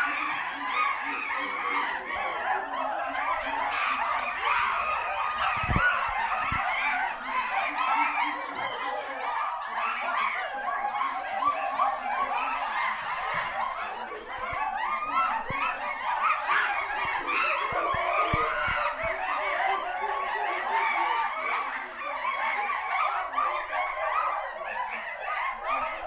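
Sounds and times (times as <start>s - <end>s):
chimpanzees chattering and calling: 0.0s - 26.0s.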